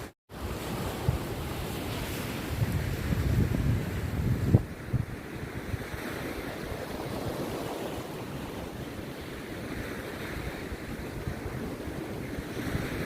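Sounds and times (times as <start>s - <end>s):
sea surf breaking on beach: 0.0s - 13.0s.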